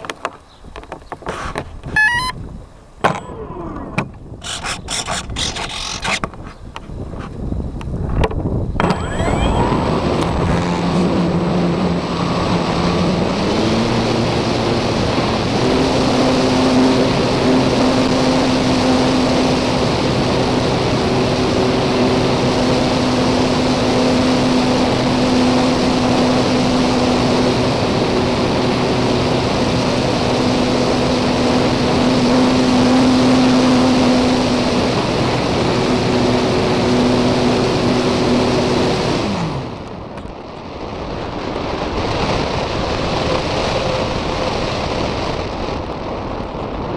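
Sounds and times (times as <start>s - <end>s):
electric motor and propeller humming: 0.0s - 46.9s
wind rushing on microphone: 0.5s - 46.9s.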